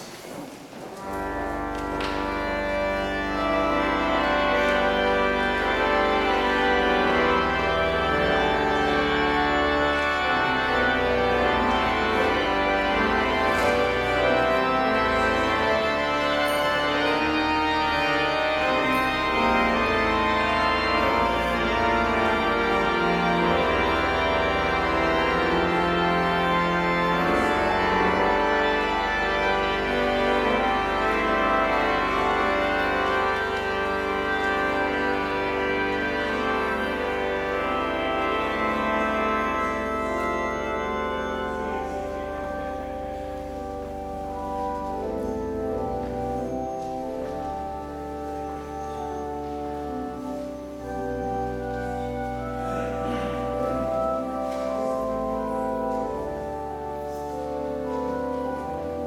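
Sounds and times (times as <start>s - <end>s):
church organ chords: 0.9s - 59.0s.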